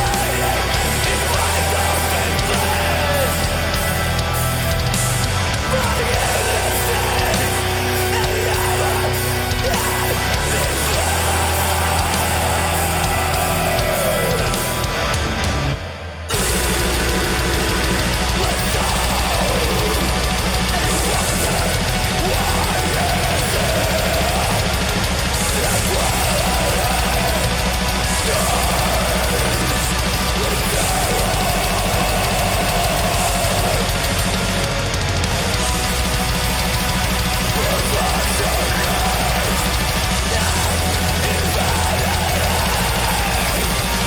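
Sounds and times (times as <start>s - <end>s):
black metal song: 0.0s - 44.0s.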